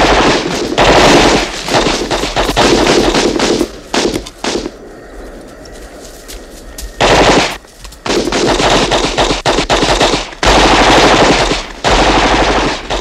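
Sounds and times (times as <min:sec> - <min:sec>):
rapid automatic gunfire: 0:00.0 - 0:04.7, 0:07.0 - 0:13.0.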